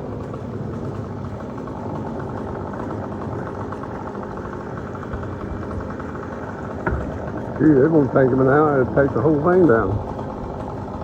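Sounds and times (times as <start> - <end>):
large engine idling: 0.0 - 11.0.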